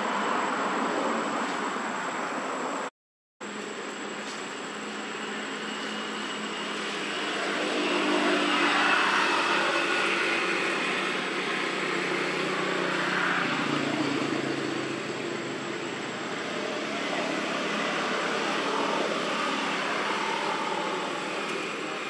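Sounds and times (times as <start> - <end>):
distant engine drone: 0.0 - 22.0.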